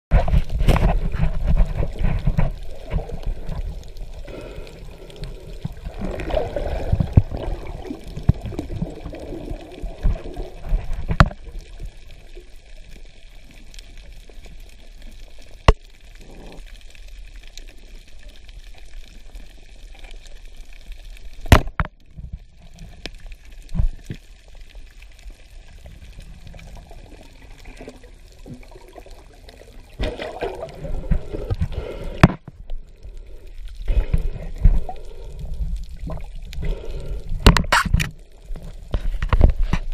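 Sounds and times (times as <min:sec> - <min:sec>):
underwater sloshing and gurgling: 0:00.1 - 0:39.9.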